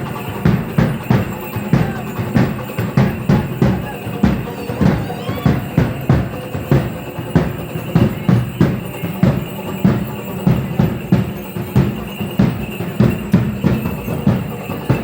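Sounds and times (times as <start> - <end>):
drum beating dance rhythm: 0.0 - 15.0.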